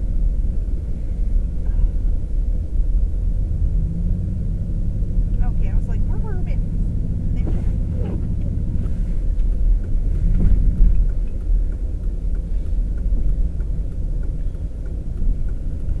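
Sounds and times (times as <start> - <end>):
vehicle engine and tyre noise: 0.0 - 16.0.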